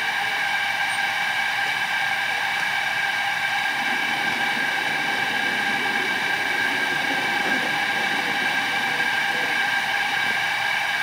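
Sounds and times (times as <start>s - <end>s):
steady whistling tones: 0.0s - 11.0s
steam hissing: 0.0s - 11.0s.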